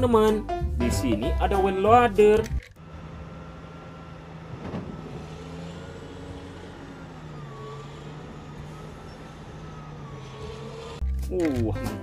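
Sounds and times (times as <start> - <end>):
diesel engine running: 1.2 - 11.3.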